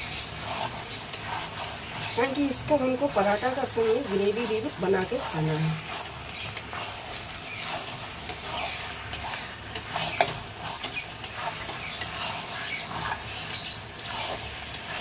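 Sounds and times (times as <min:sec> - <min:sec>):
frying sizzle: 0:00.0 - 0:15.0
spatula scraping a metal pan: 0:00.0 - 0:15.0.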